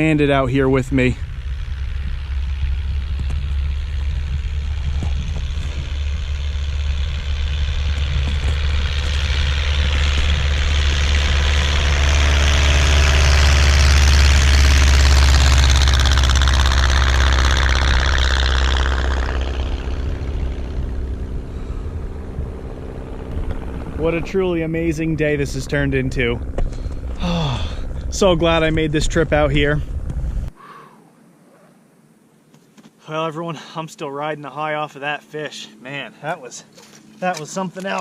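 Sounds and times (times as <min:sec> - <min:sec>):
propeller plane engine running: 0:00.0 - 0:30.6, 0:31.9 - 0:38.0.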